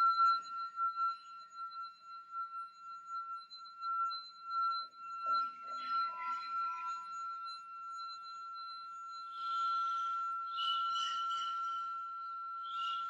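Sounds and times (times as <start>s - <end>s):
high ringing tone: 1.8s - 13.0s.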